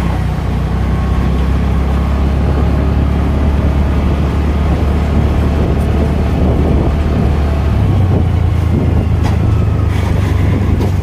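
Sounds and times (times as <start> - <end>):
scooter engine running: 0.0 - 11.0
wind buffeting microphone: 0.0 - 11.0.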